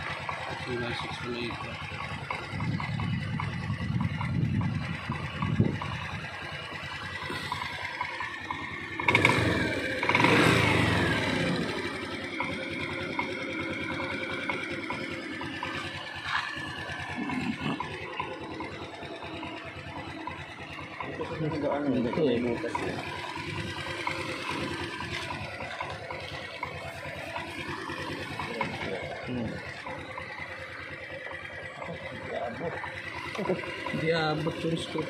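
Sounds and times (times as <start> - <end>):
scooter engine idling and revving: 0.0 - 35.0.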